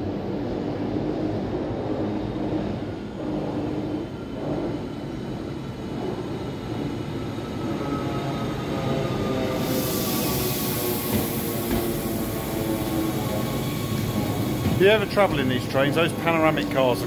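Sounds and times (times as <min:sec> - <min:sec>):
faint train whine: 0:00.0 - 0:17.0
train running rumble: 0:00.0 - 0:17.0.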